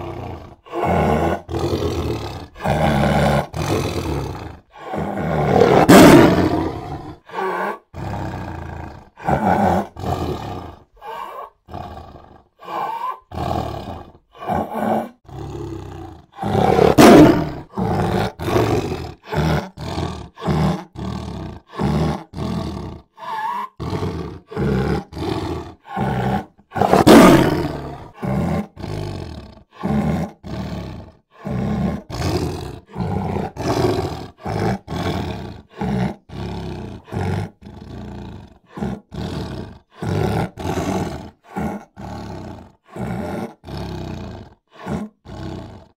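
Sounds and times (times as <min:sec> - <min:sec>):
big cat roaring: 0:00.0 - 0:45.9.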